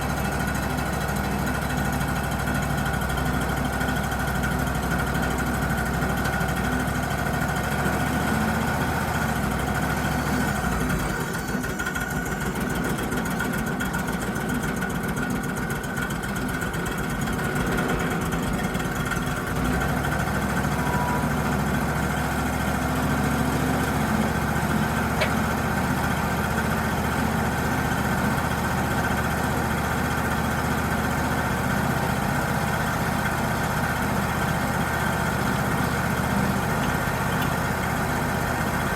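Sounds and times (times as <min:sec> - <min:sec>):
bandsaw mill running: 0:00.0 - 0:38.9.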